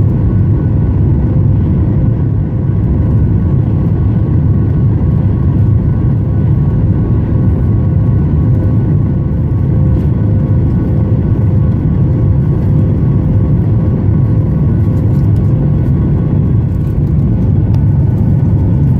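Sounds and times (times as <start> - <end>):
jet engines rumbling: 0.0 - 18.9
steady engine tones: 0.0 - 18.9.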